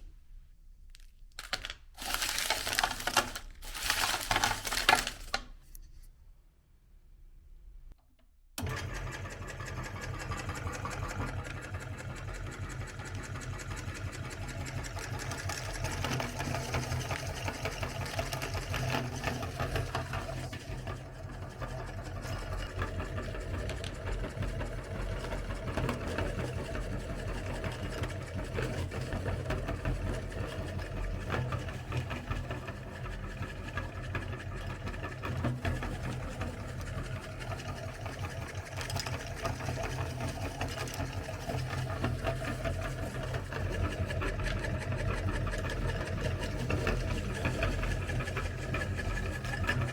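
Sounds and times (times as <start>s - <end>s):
meat grinder grinding candy: 1.4s - 5.3s, 8.6s - 49.9s.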